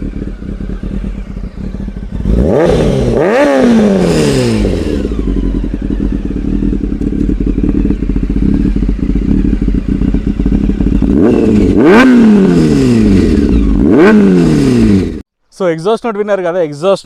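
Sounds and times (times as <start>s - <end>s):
motorcycle engine idling and revving: 0.0s - 15.3s.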